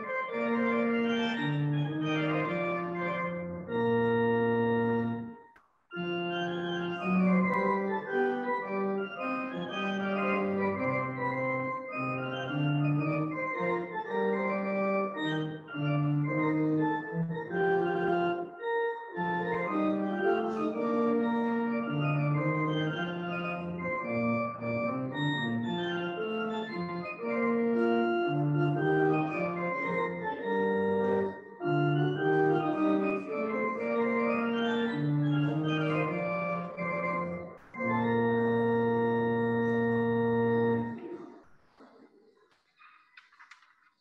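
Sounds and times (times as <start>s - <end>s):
pipe organ playing chords: 0.0s - 41.4s.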